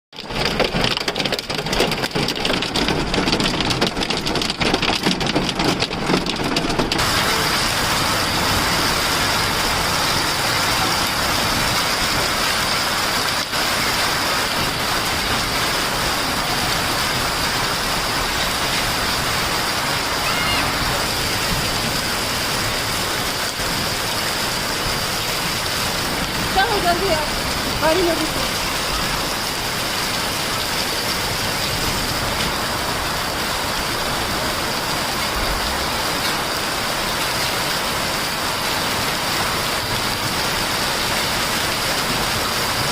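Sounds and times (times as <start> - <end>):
heavy rain: 0.1 - 42.9
hail clattering: 0.2 - 42.9.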